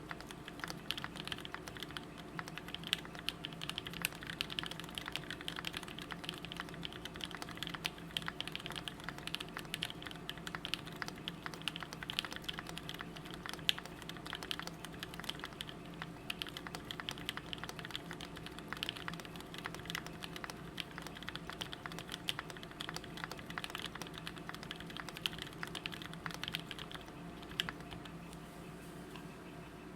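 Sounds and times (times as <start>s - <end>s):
mechanical keyboard typing: 0.0s - 28.1s.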